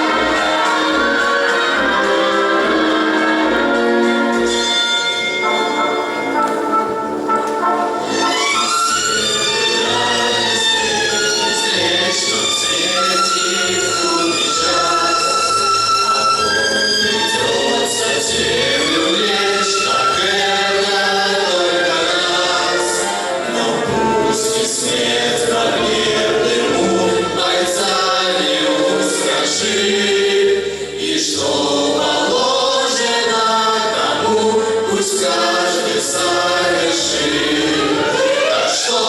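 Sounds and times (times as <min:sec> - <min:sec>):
choir singing a waltz: 0:00.0 - 0:39.0
instrumental accompaniment: 0:00.0 - 0:39.0.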